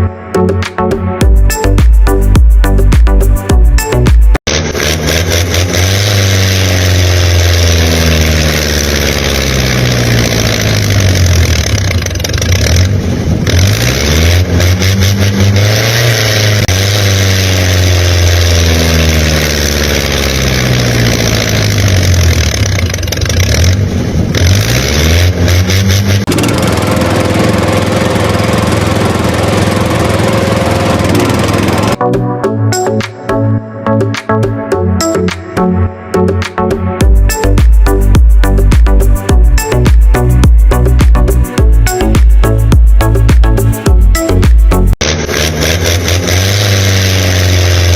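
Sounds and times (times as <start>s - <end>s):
engine revving: 1.4s - 32.1s, 33.0s - 47.9s.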